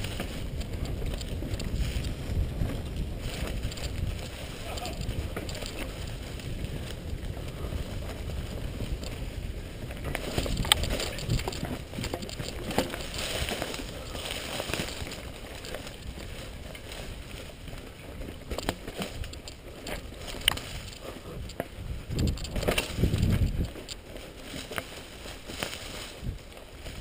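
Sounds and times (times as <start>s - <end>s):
wind on microphone: 0.0s - 24.0s, 26.0s - 27.0s
bike clicks and rattles: 0.0s - 27.0s
tyres rumbling on dirt: 0.0s - 27.0s.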